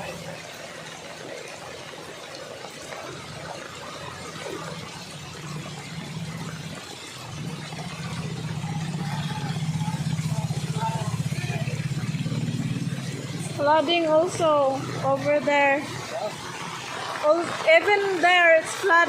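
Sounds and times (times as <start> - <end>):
low engine hum: 0.0 - 19.0
water washing under vehicle: 0.0 - 19.0.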